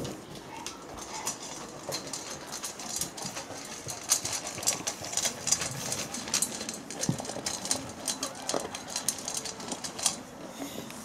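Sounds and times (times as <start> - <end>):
kibble clinking in metal bowl: 0.0 - 10.3
dog crunching dry kibble: 0.0 - 10.9.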